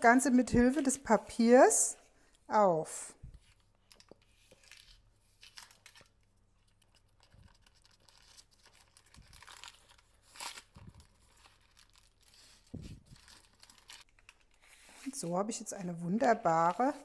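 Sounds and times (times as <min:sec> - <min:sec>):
baking paper rustling: 0:00.0 - 0:02.0, 0:03.4 - 0:17.0.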